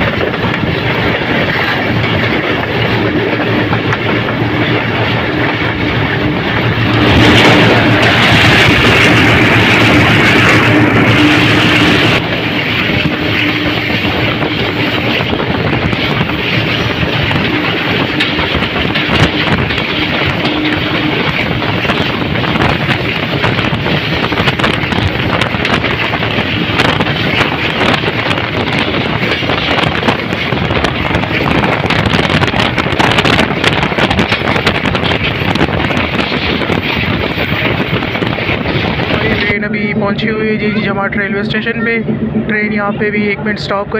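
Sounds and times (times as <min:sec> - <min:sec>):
wheels rattling and clicking: 0:00.0 - 0:42.7
train wind rush: 0:00.0 - 0:43.9.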